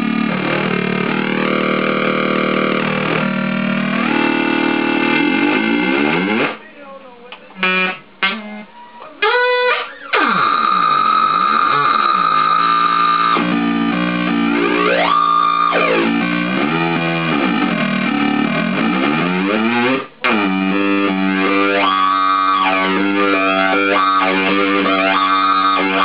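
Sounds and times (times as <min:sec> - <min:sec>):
buzzy synthesizer drone gliding: 0:00.0 - 0:06.6, 0:07.6 - 0:26.0.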